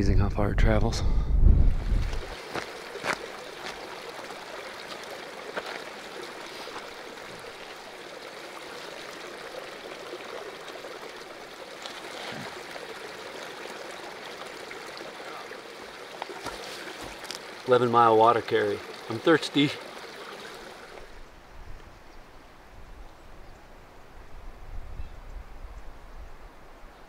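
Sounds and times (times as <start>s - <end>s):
small stream running: 1.7s - 27.0s.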